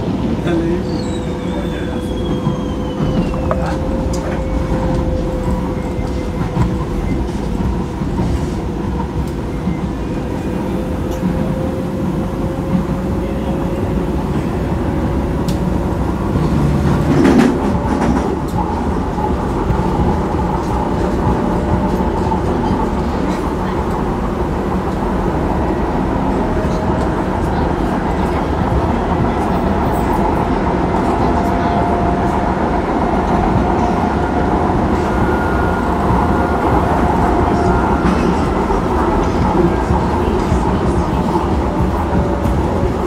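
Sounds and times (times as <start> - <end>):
train wheels rumbling on track: 0.0 - 43.0.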